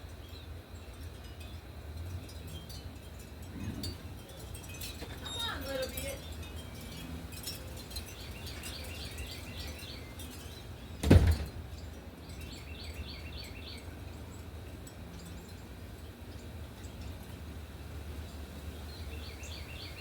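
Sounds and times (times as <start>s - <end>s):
songbird chirping: 3.8s - 20.0s.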